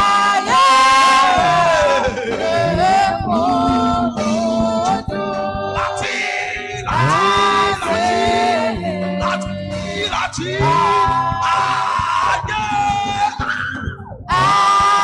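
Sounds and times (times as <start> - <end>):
sustained musical backing: 0.0 - 14.6
voices singing worship: 0.0 - 15.0.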